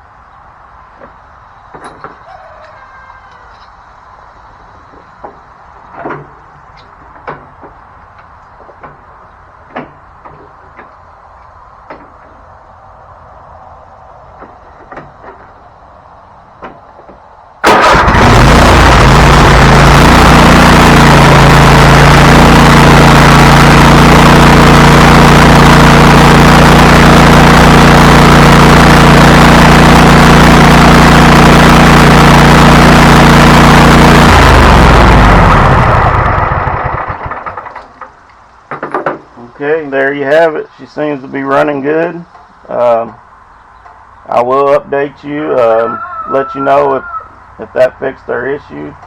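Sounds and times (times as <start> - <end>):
riding mower engine running: 0.0 - 2.7, 3.3 - 49.0.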